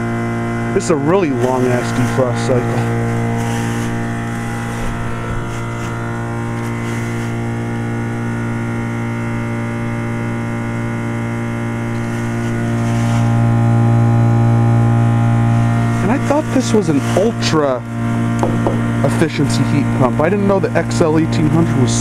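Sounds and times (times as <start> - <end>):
heat pump compressor humming: 0.0 - 22.0.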